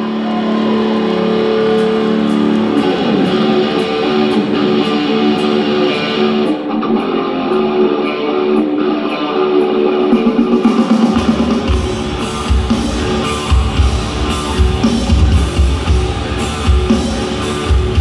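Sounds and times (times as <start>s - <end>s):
distorted electric guitars: 0.0s - 18.0s
live rock band playing: 0.0s - 18.0s.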